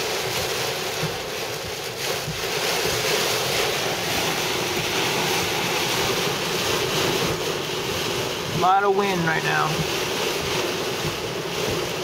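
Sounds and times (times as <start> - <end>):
heavy rain and wind on car: 0.0 - 12.0.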